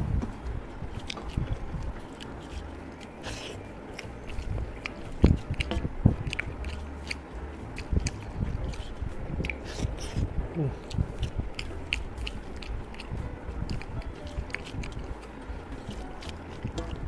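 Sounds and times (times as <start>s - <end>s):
mouth chewing: 0.0s - 17.0s
fingers mixing rice on metal plate: 0.4s - 17.0s.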